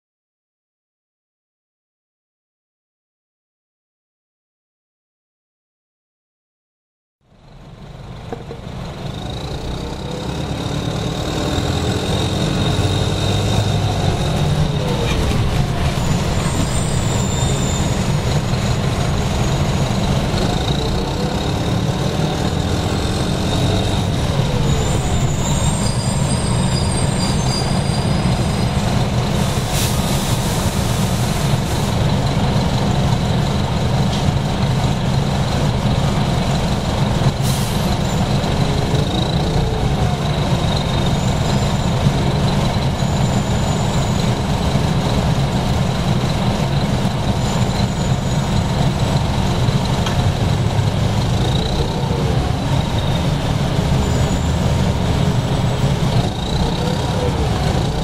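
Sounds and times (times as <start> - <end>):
bus diesel engine drone: 7.2 - 58.0.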